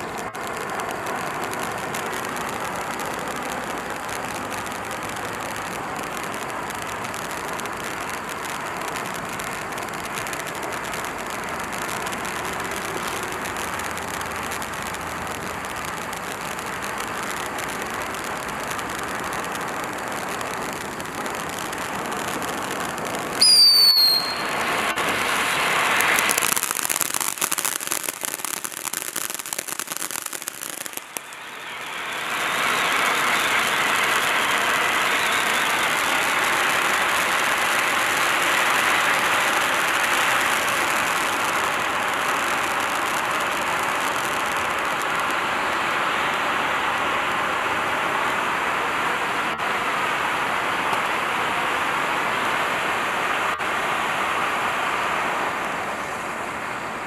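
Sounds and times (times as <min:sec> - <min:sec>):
firework crackling: 0:00.0 - 0:57.0
rushing hiss of spark jets: 0:00.2 - 0:46.0.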